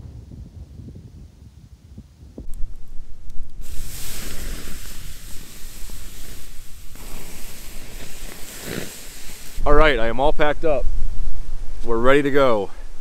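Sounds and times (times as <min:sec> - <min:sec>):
gusty wind roaring: 0:00.0 - 0:13.0
wind buffeting microphone: 0:00.0 - 0:13.0.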